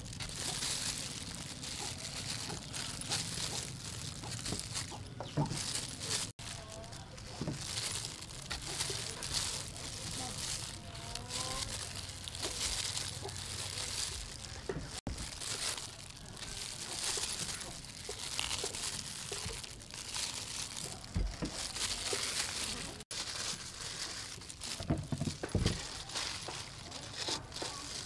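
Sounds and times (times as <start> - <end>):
peel tearing: 0.0 - 24.9.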